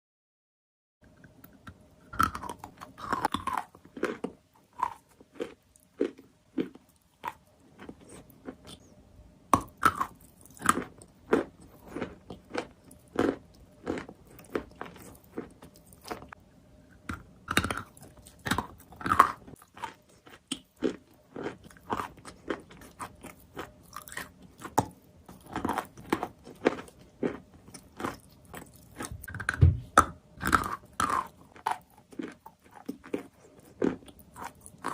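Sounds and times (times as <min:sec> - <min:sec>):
chewing: 0:02.2 - 0:08.9, 0:09.6 - 0:16.4, 0:17.0 - 0:29.6, 0:30.4 - 0:34.9.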